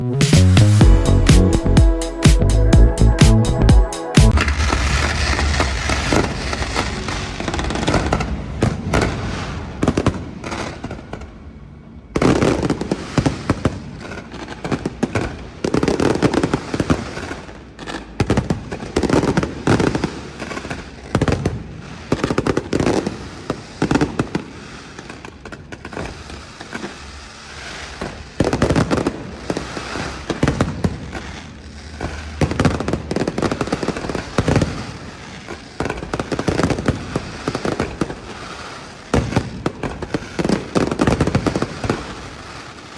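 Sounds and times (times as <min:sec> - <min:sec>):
fireworks bangs and crackle: 0:04.2 - 0:42.9.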